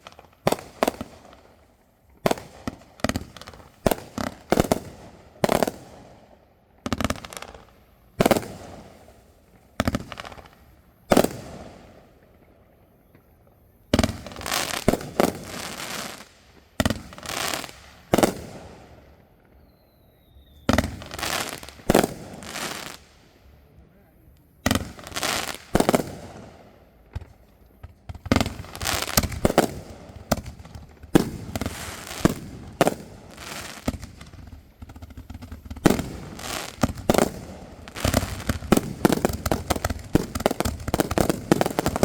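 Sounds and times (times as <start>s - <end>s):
fireworks bangs and crackle: 0.0s - 42.0s.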